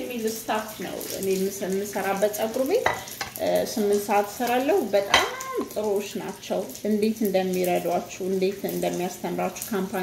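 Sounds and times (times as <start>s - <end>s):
woman talking: 0.0s - 10.0s.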